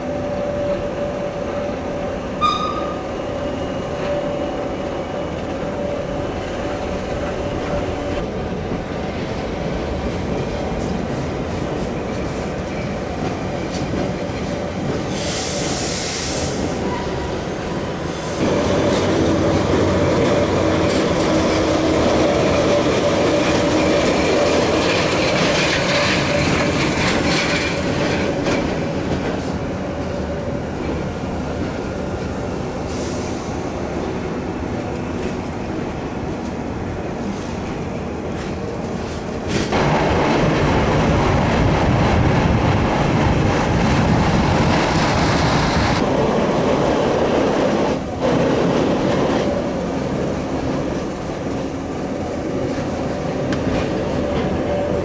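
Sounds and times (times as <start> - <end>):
train wheels on rail: 0.0 - 55.0.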